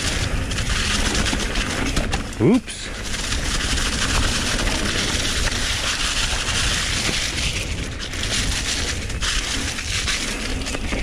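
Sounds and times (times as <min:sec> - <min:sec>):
bike tyres on dirt trail: 0:00.0 - 0:11.0
wind buffeting microphone: 0:00.0 - 0:11.0.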